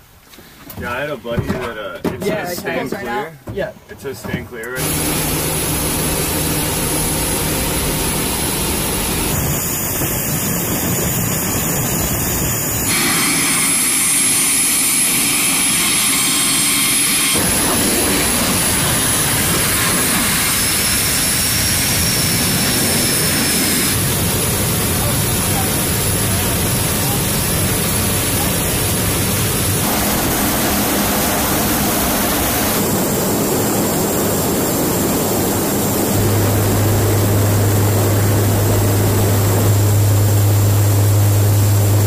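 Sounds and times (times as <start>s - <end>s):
turboprop engines roaring: 4.7s - 42.0s.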